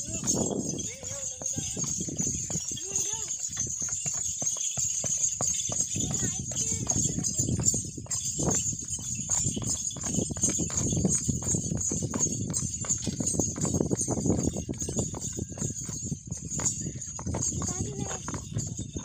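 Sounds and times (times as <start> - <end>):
ankle bells jingling: 0.0 - 19.0
horse hooves stamping on earth: 0.0 - 19.0.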